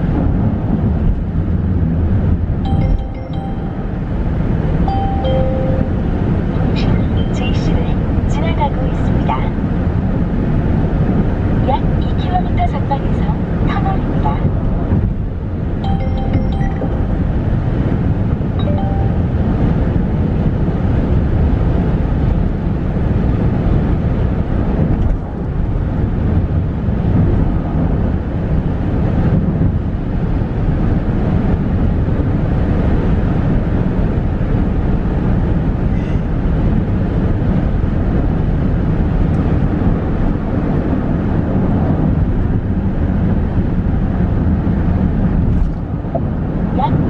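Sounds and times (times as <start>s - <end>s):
car tyre and road noise: 0.0s - 47.0s
wind noise: 0.0s - 47.0s.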